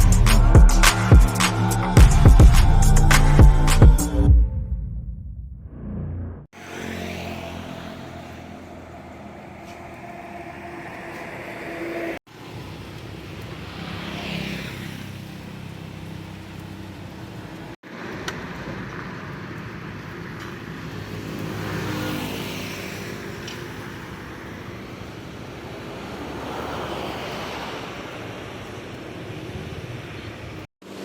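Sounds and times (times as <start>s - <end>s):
vehicles passing: 5.6s - 31.0s.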